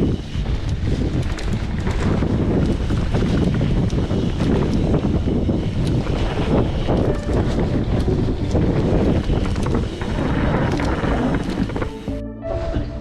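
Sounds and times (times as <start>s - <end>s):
bike rattling clicks and knocks: 0.0s - 12.1s
bike tyre rumble: 0.0s - 12.2s
wind buffeting microphone: 0.0s - 12.2s.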